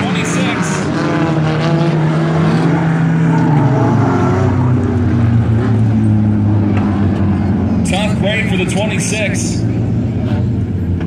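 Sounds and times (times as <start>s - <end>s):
stock car engines running: 0.0s - 11.0s.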